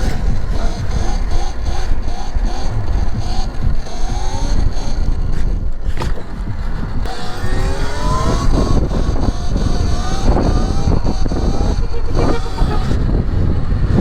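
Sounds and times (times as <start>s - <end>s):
electric motor whining: 0.0s - 14.0s
wind and riding noise: 0.0s - 14.0s.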